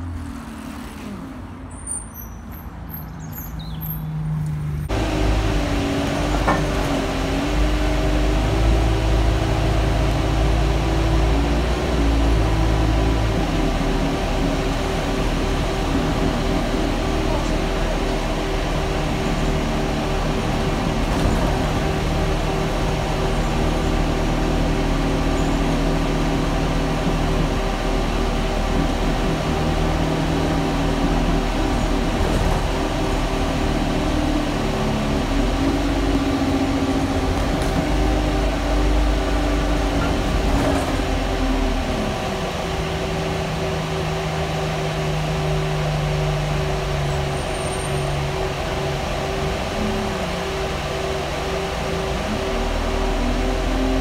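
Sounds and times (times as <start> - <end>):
bus engine: 0.0 - 54.0
road noise: 0.0 - 54.0
bus fan droning: 3.2 - 54.0.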